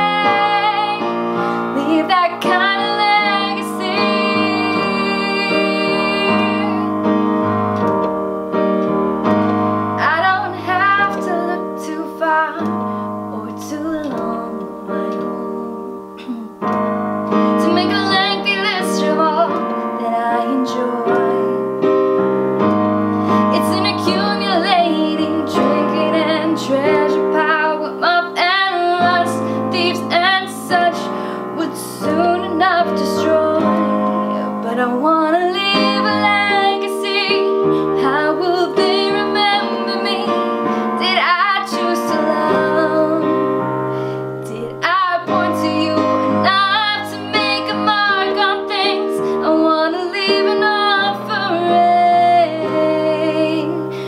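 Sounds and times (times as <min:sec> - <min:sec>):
woman singing: 0:00.0 - 0:07.0, 0:10.0 - 0:21.9, 0:23.3 - 0:43.7, 0:44.4 - 0:54.0
piano chords: 0:00.0 - 0:54.0.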